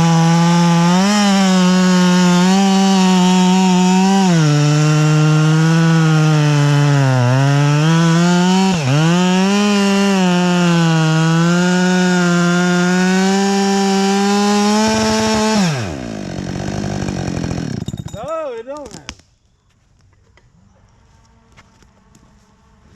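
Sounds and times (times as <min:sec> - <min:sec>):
chainsaw cutting wood: 0:00.0 - 0:19.2.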